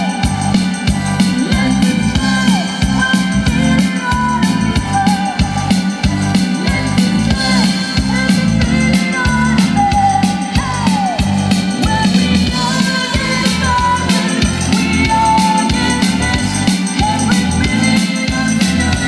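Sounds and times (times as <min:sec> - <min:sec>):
drum kit beat: 0:00.0 - 0:19.0
woman singing lead vocals: 0:00.0 - 0:19.0.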